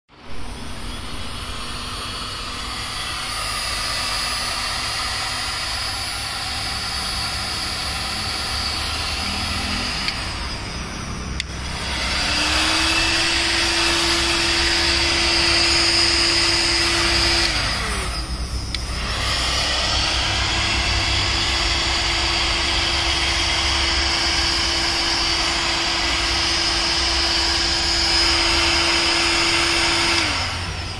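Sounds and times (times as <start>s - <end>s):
heat gun fan whining: 0.1s - 30.9s.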